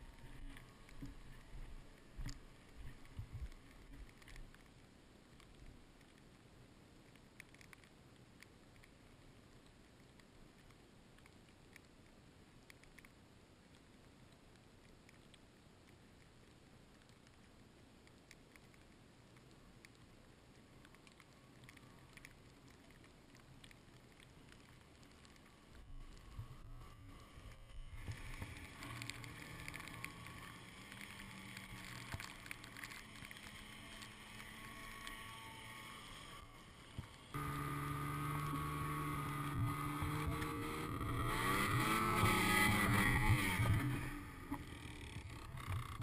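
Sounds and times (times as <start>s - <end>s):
light ticks: 0.0s - 6.4s, 7.0s - 46.0s
faint low rumble: 0.0s - 46.0s
muffled snowmobile ride noise: 0.0s - 46.0s.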